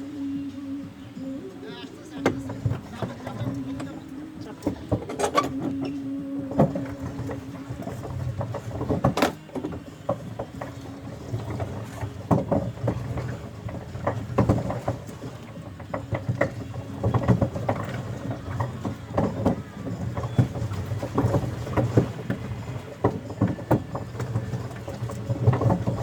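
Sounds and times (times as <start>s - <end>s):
steady hum: 0.0s - 26.0s
water splashing from paddling: 0.0s - 26.0s
paddle knocks on boat: 1.9s - 26.0s.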